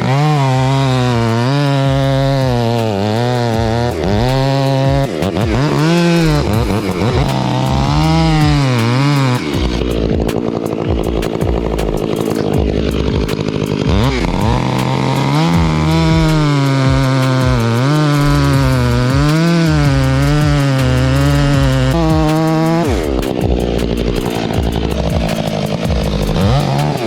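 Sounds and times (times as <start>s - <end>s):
chainsaw revving: 0.0s - 27.0s.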